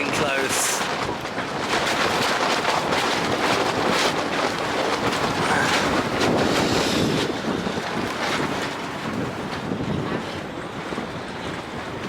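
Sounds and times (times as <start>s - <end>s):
strong wind on microphone: 0.0s - 12.0s.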